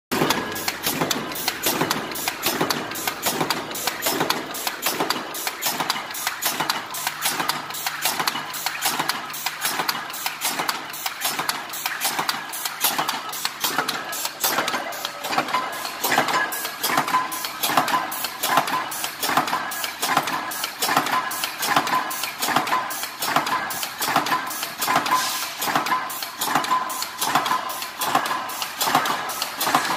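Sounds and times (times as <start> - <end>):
punch press stamping: 0.1 - 29.9.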